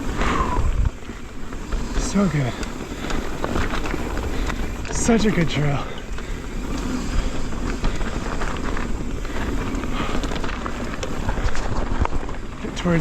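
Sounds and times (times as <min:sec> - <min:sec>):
bike knocks and rattles: 0:00.0 - 0:13.0
tyres rolling over wet dirt: 0:00.0 - 0:13.0
wind rushing over microphone: 0:00.0 - 0:13.0.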